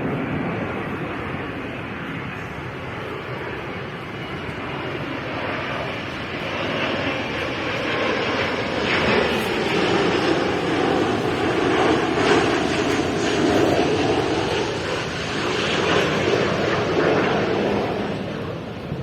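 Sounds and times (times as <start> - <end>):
jet airliner flying overhead: 0.0 - 19.0.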